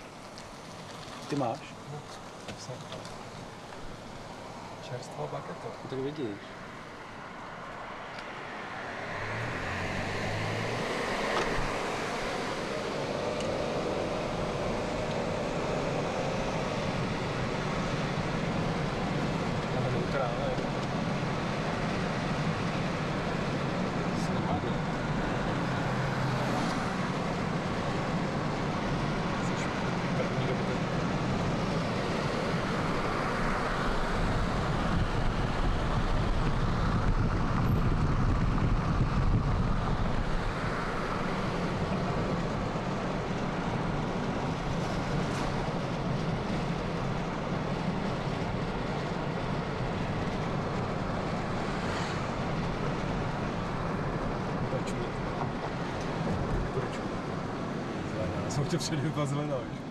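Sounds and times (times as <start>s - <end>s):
tyres on asphalt: 0.0s - 59.9s
car engine running: 9.4s - 59.9s.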